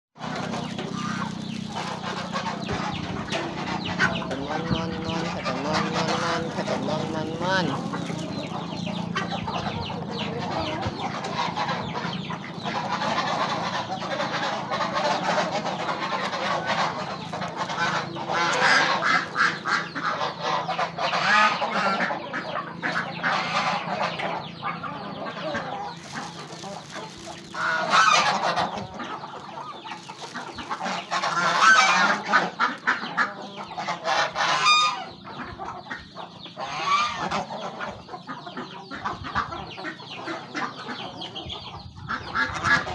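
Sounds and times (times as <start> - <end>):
geese honking: 0.2 - 42.9.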